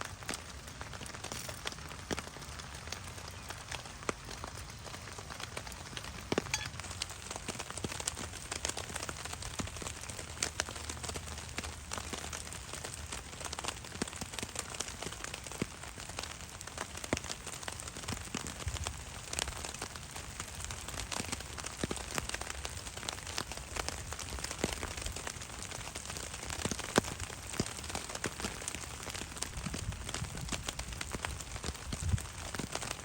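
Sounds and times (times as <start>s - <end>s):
rain drops tapping: 0.0s - 33.0s.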